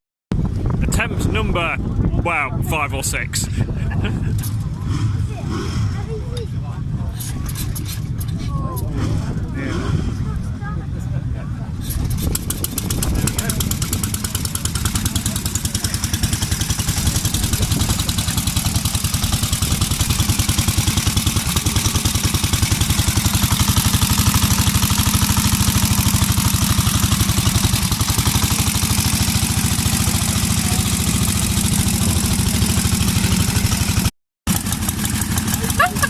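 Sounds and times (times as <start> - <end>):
motorcycle engine running: 3.6 - 36.0.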